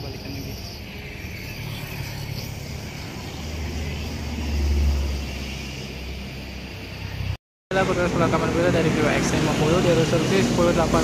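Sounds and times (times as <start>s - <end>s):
street traffic: 0.0s - 11.0s
vehicle passing by: 1.0s - 11.0s.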